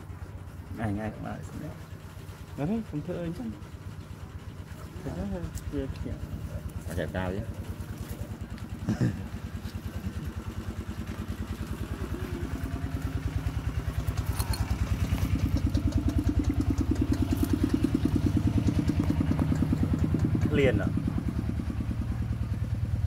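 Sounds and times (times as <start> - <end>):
small engine idling: 0.0 - 23.0.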